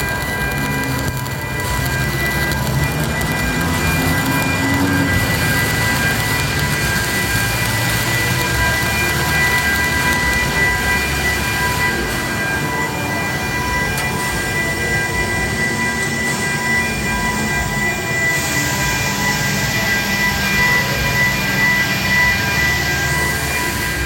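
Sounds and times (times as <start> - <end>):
high whine: 0.0 - 24.0
welding arc crackling: 0.0 - 24.0.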